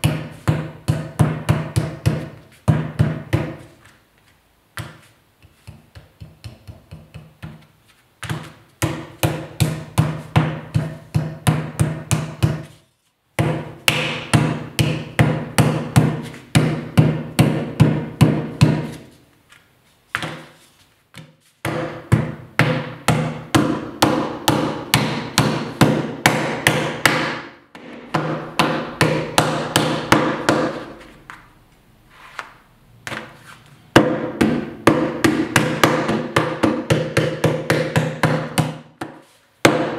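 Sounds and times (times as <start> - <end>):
wooden mallet beating clay: 0.0 - 3.8, 4.8 - 12.8, 13.4 - 19.1, 20.1 - 31.1, 33.9 - 39.9.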